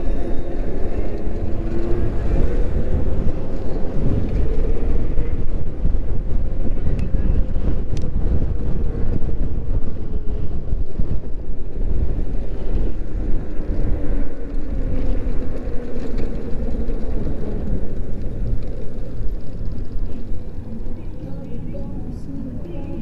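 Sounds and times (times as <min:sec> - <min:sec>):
electric moped whine: 0:00.0 - 0:23.0
wind buffeting microphone: 0:00.0 - 0:23.0.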